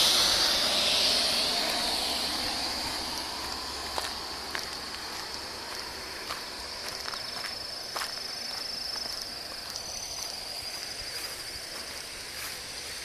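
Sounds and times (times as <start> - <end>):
insects chirring: 0.0 - 13.0
footsteps on grass: 1.6 - 13.0.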